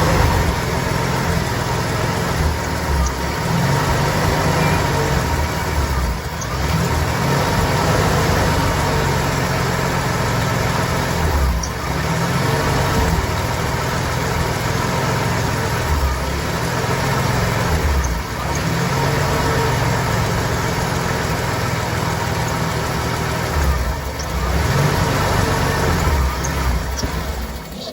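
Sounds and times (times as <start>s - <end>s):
engine idling roughly: 0.0s - 27.9s.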